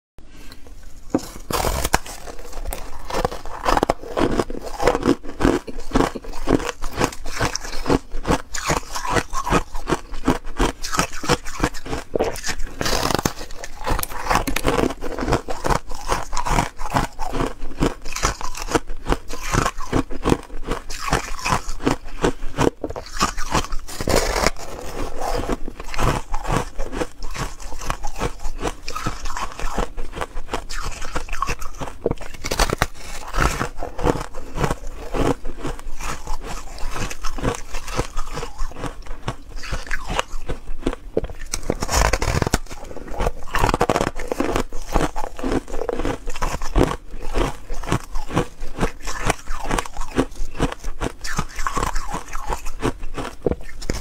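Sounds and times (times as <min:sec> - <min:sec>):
chewing crunchy ice: 0:01.0 - 0:54.0.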